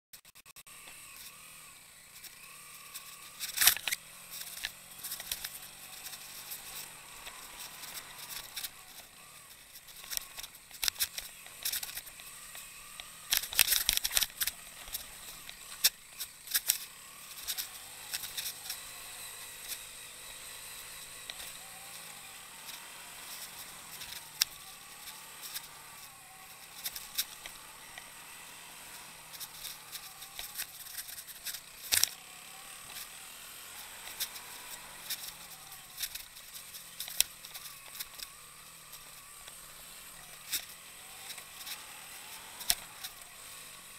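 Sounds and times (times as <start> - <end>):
motorcycle engine running: 0.4 - 43.9
bike rattling over gravel: 2.0 - 43.9.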